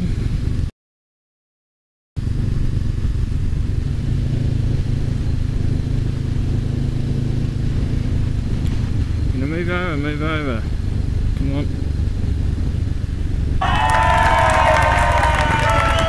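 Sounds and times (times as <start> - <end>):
motorcycle engine running: 0.0 - 0.7, 2.2 - 16.0
road and wind noise: 0.0 - 0.7, 2.2 - 16.0.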